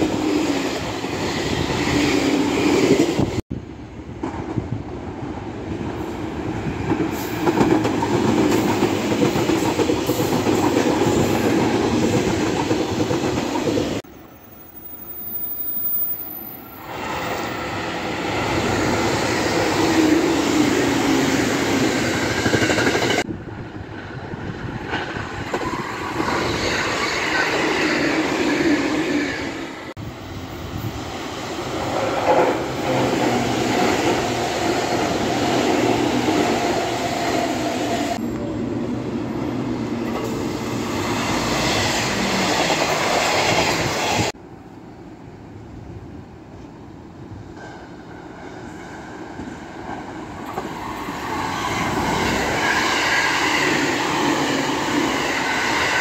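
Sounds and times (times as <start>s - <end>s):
train wheels rumbling on rails: 0.0s - 14.1s, 16.8s - 44.4s, 45.9s - 56.0s.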